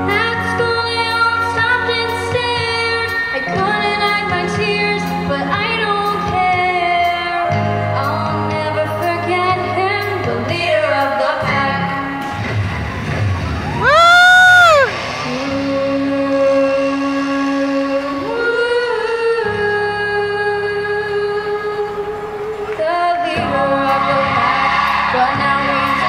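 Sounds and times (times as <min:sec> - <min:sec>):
girl singing into a microphone: 0:00.0 - 0:12.4, 0:15.2 - 0:26.0
backing music: 0:00.0 - 0:26.0.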